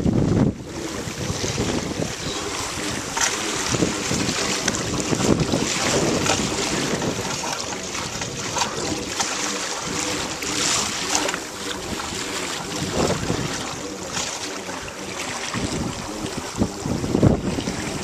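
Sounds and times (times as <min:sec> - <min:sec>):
small waves lapping: 0:00.0 - 0:18.0
wind buffeting microphone: 0:00.0 - 0:18.0.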